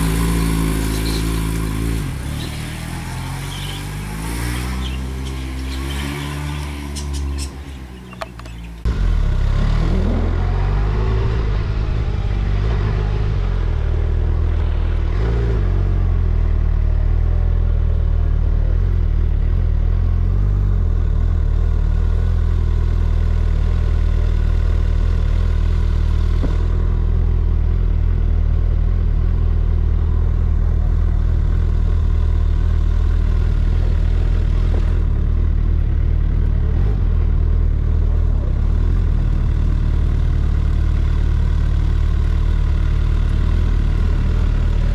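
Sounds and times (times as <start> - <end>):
deep motorcycle engine running: 0.0 - 44.9.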